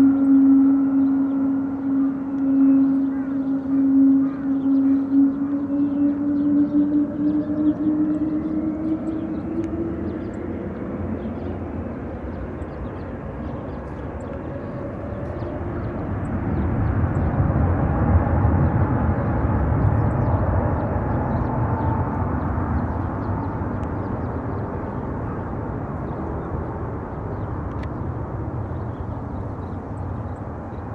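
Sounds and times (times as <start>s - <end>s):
jet engine roar with whine: 0.0s - 30.9s.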